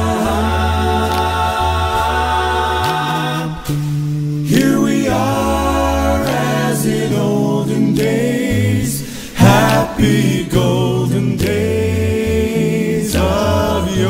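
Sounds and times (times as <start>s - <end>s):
vocal group singing a cappella: 0.0s - 14.0s.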